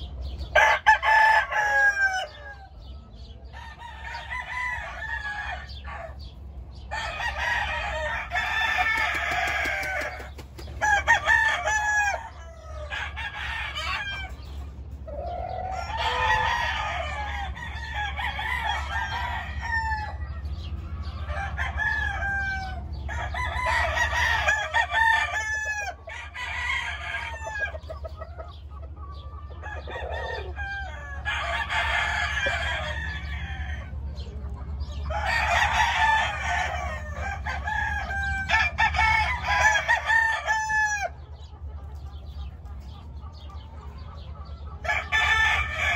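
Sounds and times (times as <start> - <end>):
rooster clucking: 0.0 - 45.9
roosters crowing: 0.0 - 45.9.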